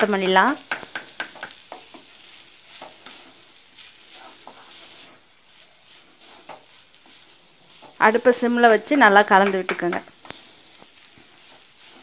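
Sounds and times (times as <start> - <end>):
rice sizzling in a pan: 0.0 - 12.0
spatula scraping and tapping pan: 0.0 - 12.0.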